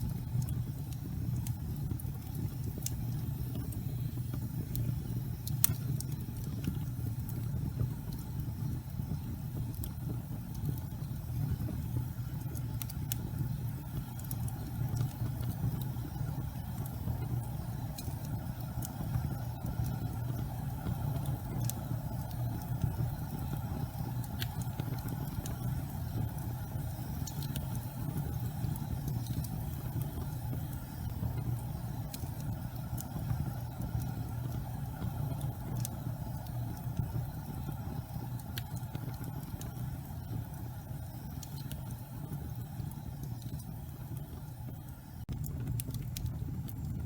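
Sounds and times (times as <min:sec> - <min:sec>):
fire burning with crackles: 0:00.0 - 0:47.0.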